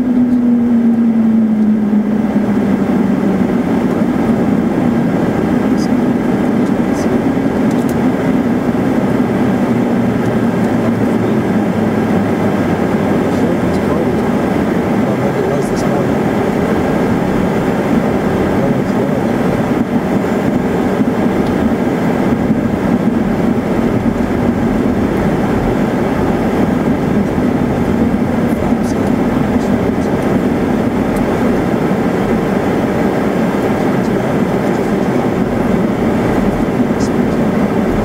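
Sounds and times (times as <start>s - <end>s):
jet cabin engine rumble: 0.0s - 38.0s.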